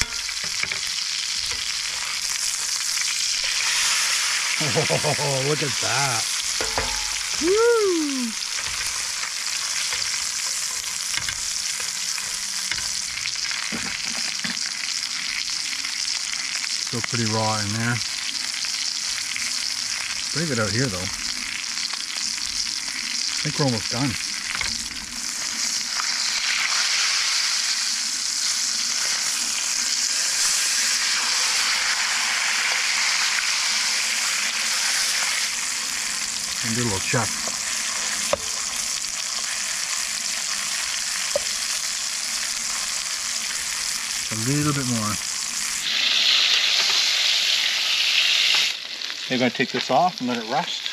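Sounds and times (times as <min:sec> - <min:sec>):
steak sizzling in a pan: 0:00.0 - 0:50.9.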